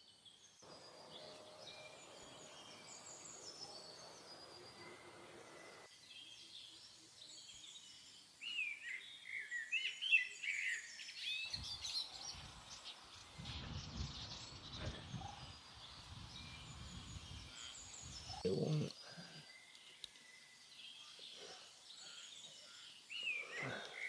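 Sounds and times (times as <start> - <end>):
birds chirping: 0.1 - 6.0, 7.3 - 24.0.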